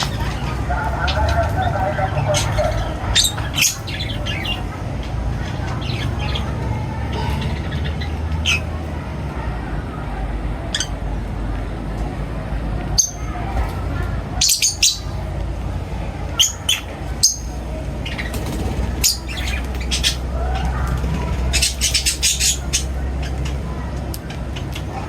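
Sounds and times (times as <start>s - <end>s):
birds chirping and squawking: 0.0s - 9.6s, 10.6s - 11.2s, 12.9s - 25.0s.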